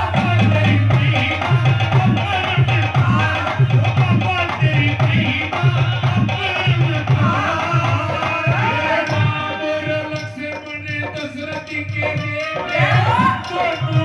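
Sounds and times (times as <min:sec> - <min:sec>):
folk dance music over sound system: 0:00.0 - 0:14.0.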